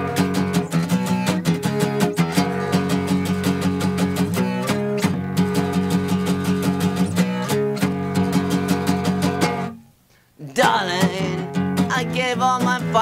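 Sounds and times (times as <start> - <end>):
strummed punk guitar: 0.0 - 13.0.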